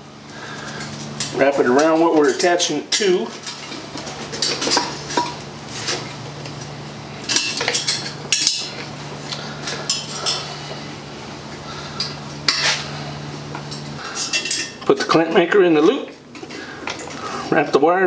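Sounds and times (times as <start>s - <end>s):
steady low hum: 0.0s - 18.0s
metal wire clinks and scrapes: 0.6s - 8.9s, 9.6s - 10.8s, 12.0s - 17.2s.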